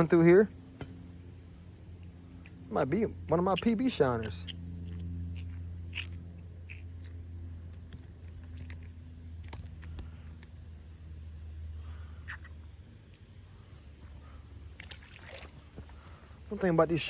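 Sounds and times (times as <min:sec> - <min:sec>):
crickets trilling: 0:00.0 - 0:17.0
low hum: 0:00.0 - 0:17.0.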